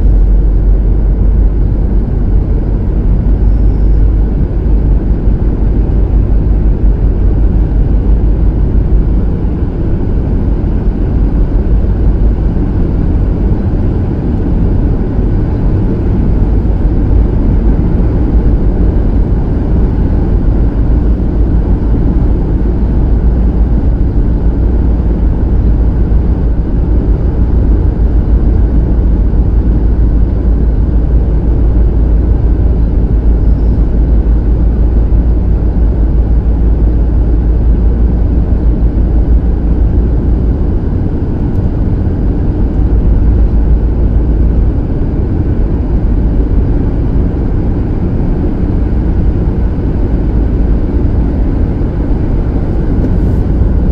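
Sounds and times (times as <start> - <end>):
car driving on snow: 0.0 - 53.9.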